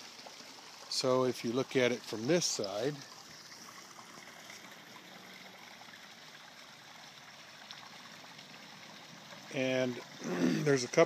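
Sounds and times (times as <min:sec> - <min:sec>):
water running over rocks: 0:00.0 - 0:11.0.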